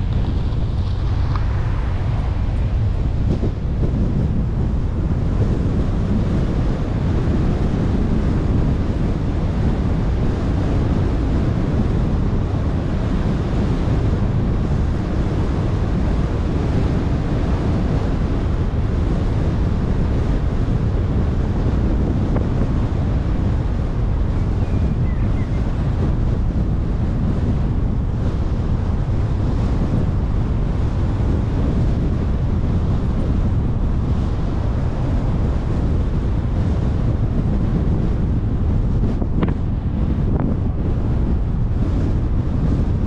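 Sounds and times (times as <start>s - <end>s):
car wind and tyre rumble: 0.0s - 43.0s
wind buffeting microphone: 0.0s - 43.0s.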